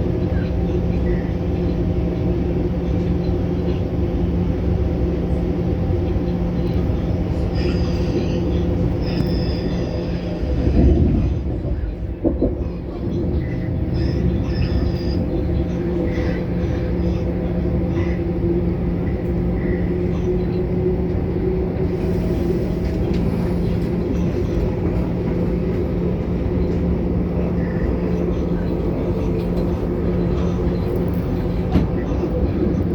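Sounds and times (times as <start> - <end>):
train rumble inside carriage: 0.0 - 32.9
train motor hum: 4.6 - 32.9.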